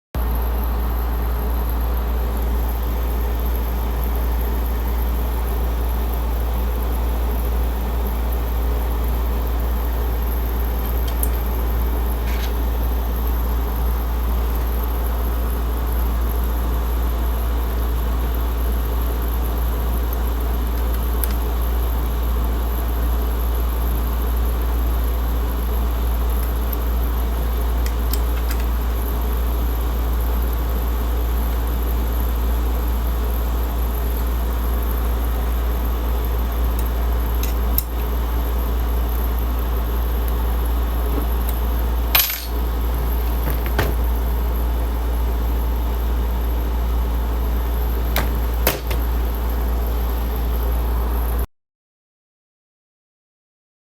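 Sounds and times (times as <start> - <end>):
low machine drone: 0.2 - 51.5.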